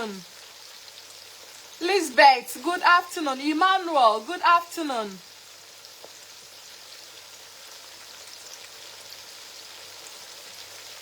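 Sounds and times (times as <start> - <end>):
food frying in oil: 0.0 - 11.0.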